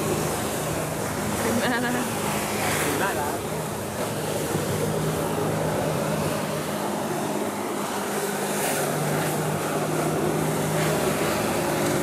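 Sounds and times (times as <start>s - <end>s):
boat engine droning: 0.0s - 12.0s
wind and water spray hiss: 0.0s - 12.0s.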